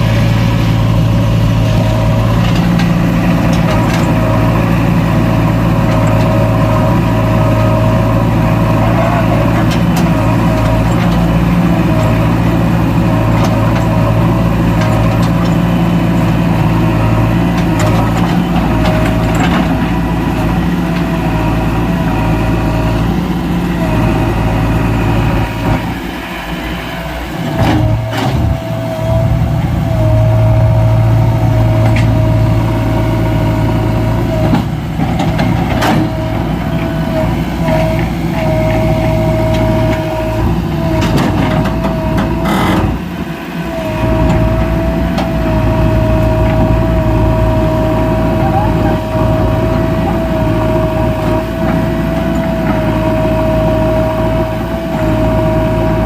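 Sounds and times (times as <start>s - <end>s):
diesel engine working under load: 0.0s - 56.0s.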